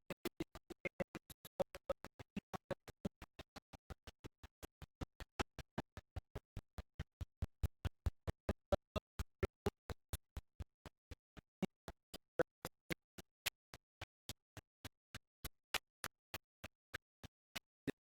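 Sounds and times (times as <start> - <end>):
rapid ticking clicks: 0.1 - 18.0.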